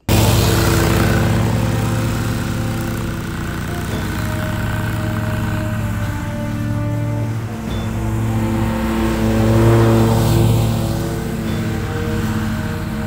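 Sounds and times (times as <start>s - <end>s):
lawn mower cutting grass: 0.0s - 13.0s.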